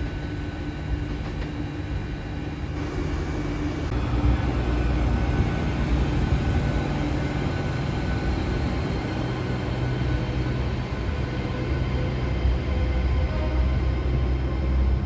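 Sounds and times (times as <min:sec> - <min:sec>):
faint steady whine: 0:00.0 - 0:15.0
train diesel engine rumbling: 0:00.0 - 0:15.0.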